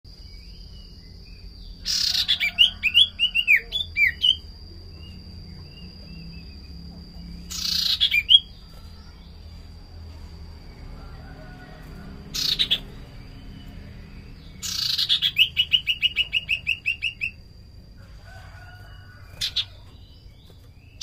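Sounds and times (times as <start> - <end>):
bird chirping notes: 0.1 - 17.5.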